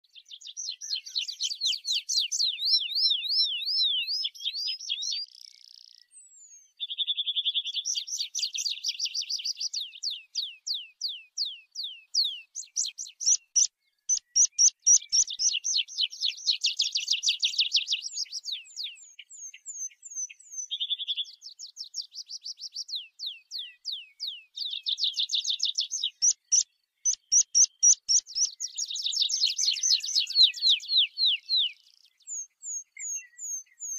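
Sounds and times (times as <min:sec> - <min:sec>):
bird singing trills: 0:00.0 - 0:33.9.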